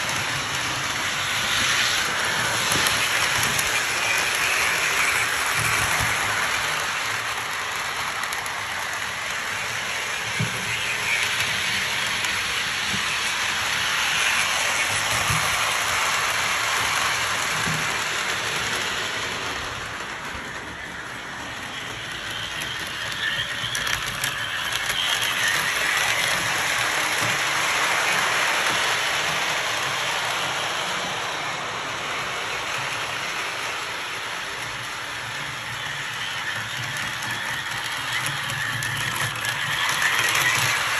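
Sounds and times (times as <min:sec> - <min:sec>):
toy train rolling rumble: 0:00.0 - 0:40.9.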